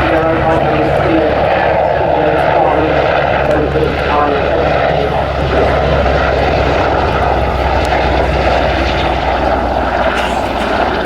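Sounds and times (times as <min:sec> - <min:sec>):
helicopter rotor and turbine din: 0:00.0 - 0:11.0.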